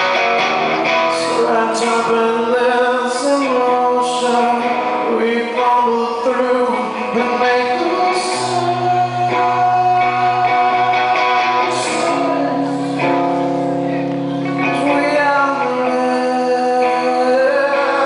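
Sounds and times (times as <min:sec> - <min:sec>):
live rock band playing: 0:00.0 - 0:18.0
man singing: 0:01.0 - 0:18.0.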